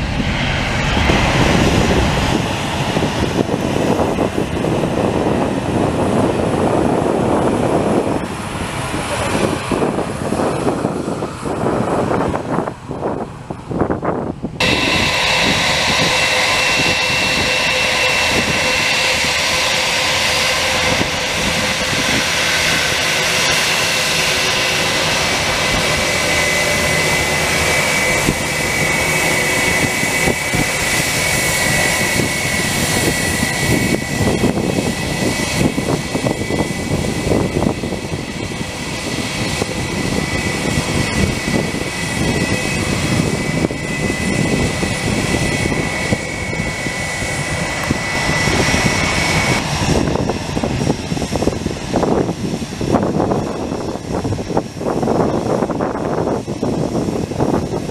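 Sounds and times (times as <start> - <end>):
low rumble: 0.0 - 57.8
jet engines whining: 0.0 - 57.9.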